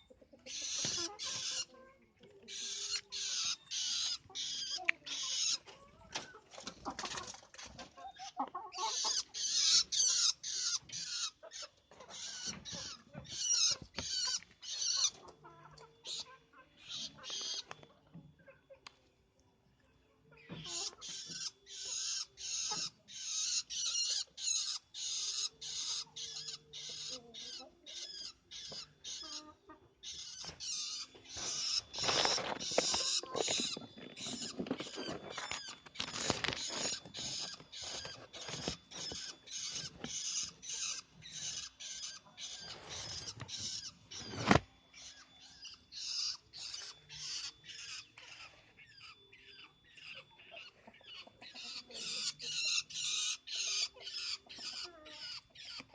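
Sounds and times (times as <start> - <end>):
bird calling with harsh notes: 0.0 - 1.8, 2.4 - 6.9, 8.0 - 18.7, 20.3 - 55.9.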